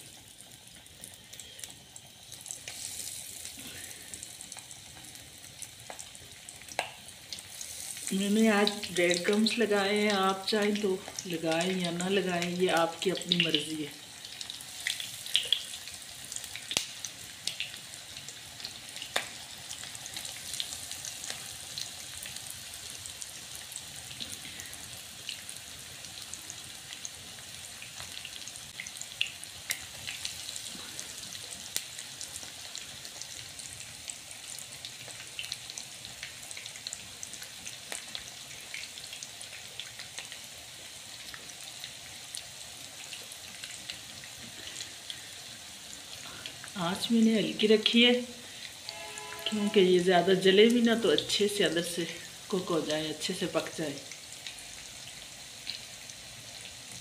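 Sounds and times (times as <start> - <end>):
oil crackling and popping: 0.0 - 47.1, 52.2 - 57.0
patties sizzling in oil: 0.0 - 57.0.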